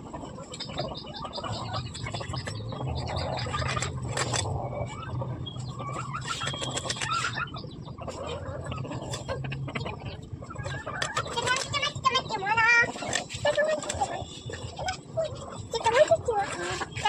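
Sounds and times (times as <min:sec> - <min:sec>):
birds calling: 0:00.0 - 0:17.0
chickens clucking: 0:00.0 - 0:17.0
low steady hum: 0:00.0 - 0:17.0.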